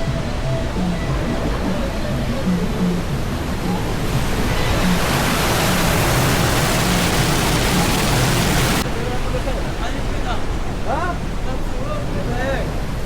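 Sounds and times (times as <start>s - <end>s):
faint music: 0.0s - 13.0s
waterfall roaring: 0.0s - 13.0s.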